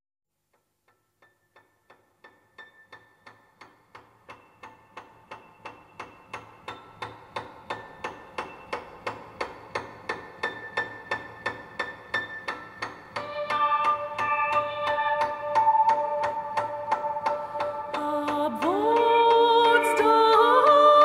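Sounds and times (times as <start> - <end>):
background music with ticking beat: 0.5 - 21.0.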